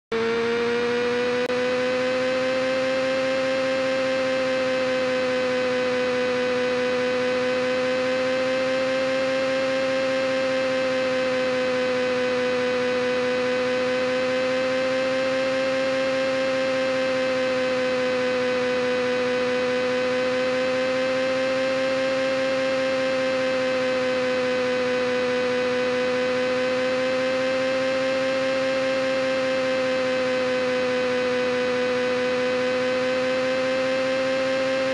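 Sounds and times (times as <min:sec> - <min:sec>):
buzzing hum: 0:00.1 - 0:34.9.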